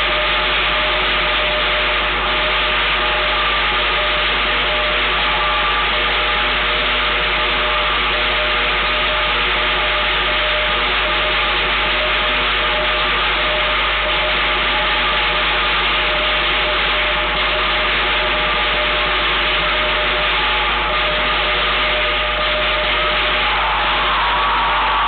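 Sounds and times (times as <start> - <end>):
drum cymbals and gong percussion: 0.0 - 25.0.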